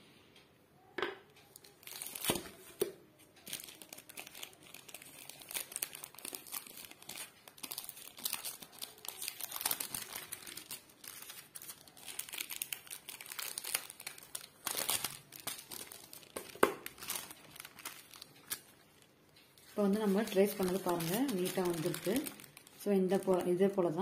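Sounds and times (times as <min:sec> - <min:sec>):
tracing paper crinkling: 0:01.6 - 0:24.0.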